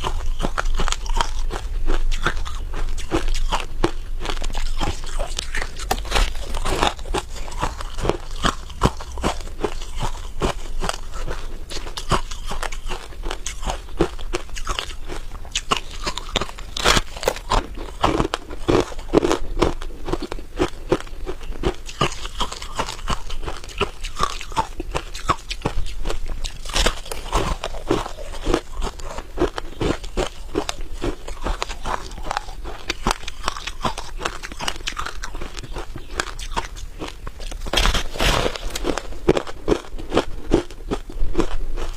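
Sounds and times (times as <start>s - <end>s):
chewing crunchy ice: 0.0s - 41.9s.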